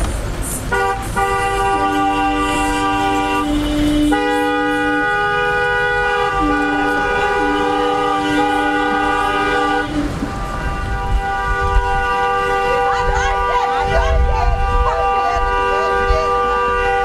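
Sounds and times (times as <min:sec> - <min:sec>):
car horns blasting: 0:00.6 - 0:17.0.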